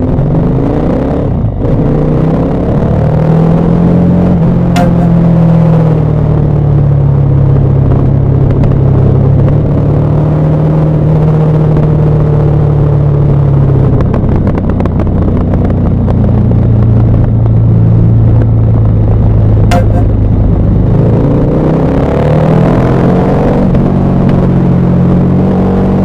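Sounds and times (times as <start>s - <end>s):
motorcycle engine and exhaust: 0.0s - 26.0s.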